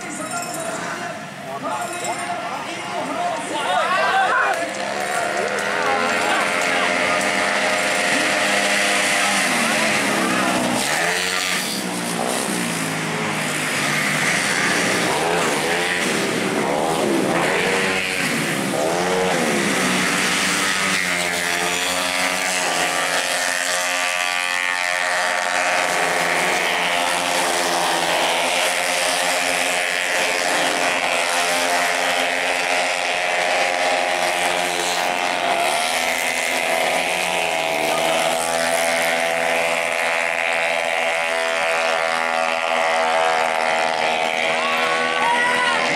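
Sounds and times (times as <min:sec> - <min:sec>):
racing scooter engines passing: 0:00.0 - 0:45.9.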